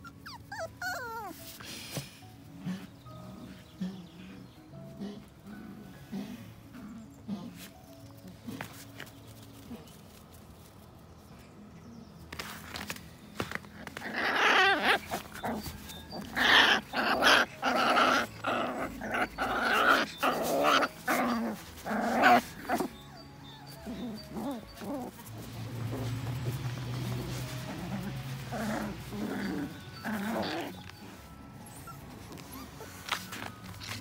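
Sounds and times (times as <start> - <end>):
puppies growling and barking: 0.0 - 10.3, 12.7 - 34.0.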